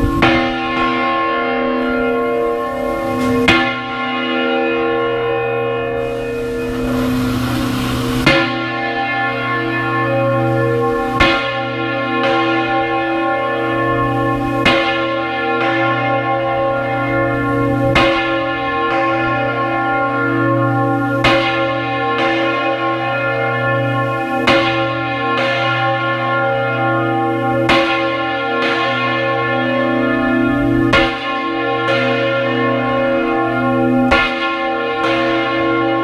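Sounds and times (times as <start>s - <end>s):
large bell ringing: 0.0s - 36.0s.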